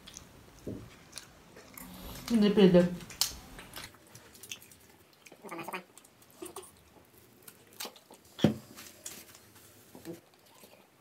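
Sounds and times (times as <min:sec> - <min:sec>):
person chewing food: 0:00.0 - 0:02.3, 0:03.0 - 0:11.0.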